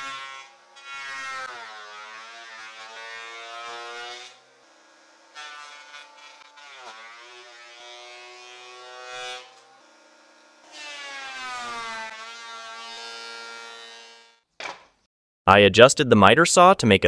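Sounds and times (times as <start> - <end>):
thickness planer whining: 0.0 - 14.8.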